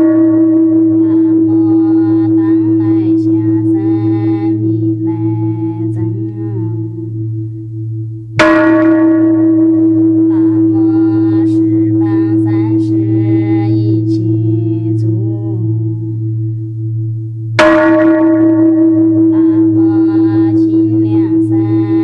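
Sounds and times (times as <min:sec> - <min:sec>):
low drone with wavering tones: 0:00.0 - 0:22.0.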